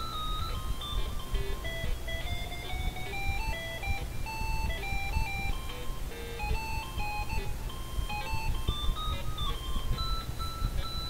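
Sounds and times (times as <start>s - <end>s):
beeping square-wave melody: 0.0s - 11.0s
steady low hum: 0.0s - 11.0s.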